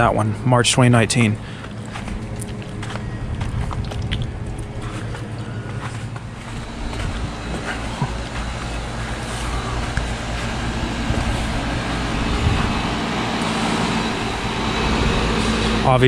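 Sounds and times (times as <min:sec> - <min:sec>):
heat pump compressor and fan hum: 0:00.0 - 0:16.0.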